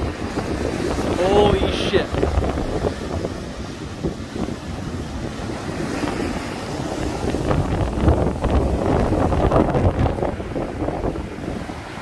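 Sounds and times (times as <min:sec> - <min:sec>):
heavy surf breaking: 0:00.0 - 0:12.0
wind buffeting microphone: 0:00.0 - 0:12.0.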